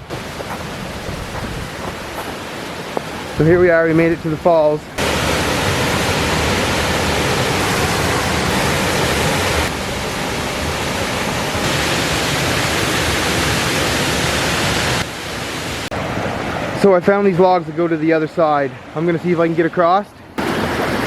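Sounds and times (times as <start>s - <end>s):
waterfall rushing: 0.0s - 17.4s, 20.4s - 21.0s.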